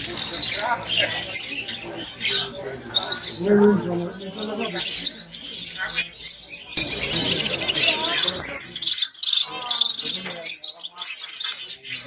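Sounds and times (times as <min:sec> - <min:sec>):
canaries chirping and trilling: 0:00.0 - 0:12.0
people talking: 0:00.0 - 0:12.0.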